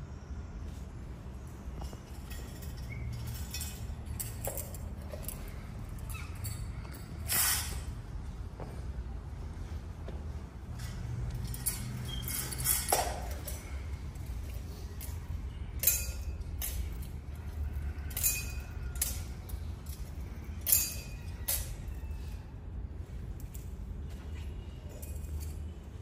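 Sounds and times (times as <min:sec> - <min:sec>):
censer chains clinking: 0:01.3 - 0:08.1, 0:10.7 - 0:26.0.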